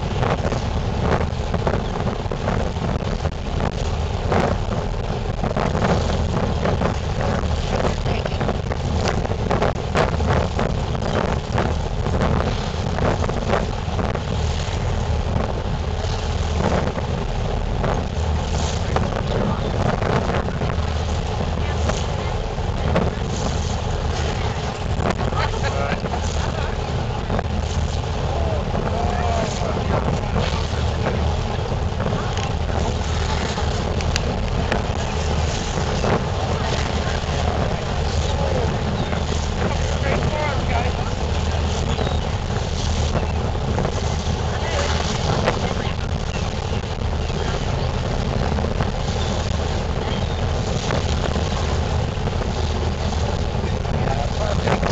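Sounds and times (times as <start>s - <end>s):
low rumble: 0.0s - 54.9s
wind buffeting microphone: 0.0s - 54.9s.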